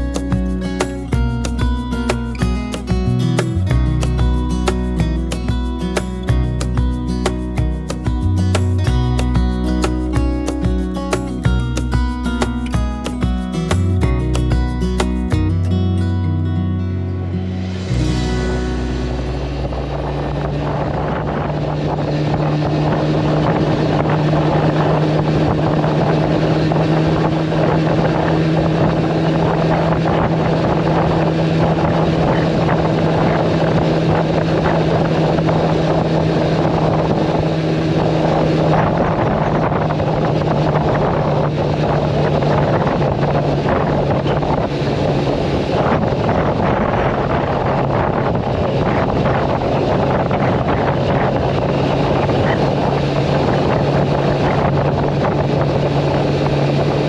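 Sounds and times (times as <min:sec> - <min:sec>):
two-stroke motorcycle engine running: 0:00.0 - 0:15.7, 0:17.9 - 0:57.0
wind rushing over microphone: 0:00.0 - 0:16.5, 0:17.1 - 0:57.0.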